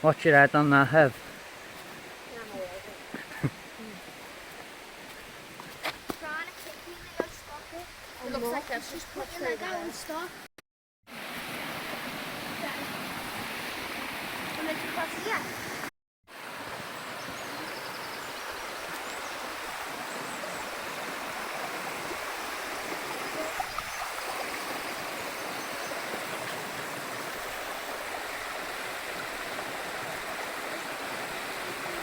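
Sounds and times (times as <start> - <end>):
stream water rushing: 0.0 - 10.5, 11.1 - 32.0.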